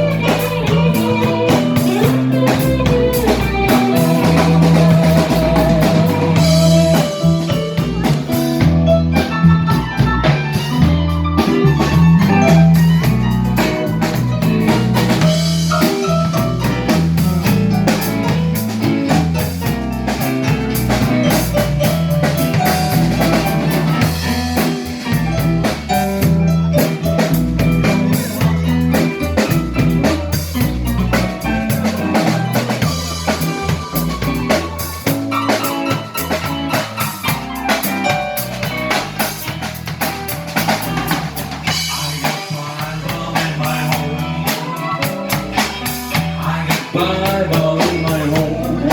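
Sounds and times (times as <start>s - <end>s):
bass line: 0.0s - 48.9s
drum kit: 0.0s - 48.9s
live band playing: 0.0s - 48.9s.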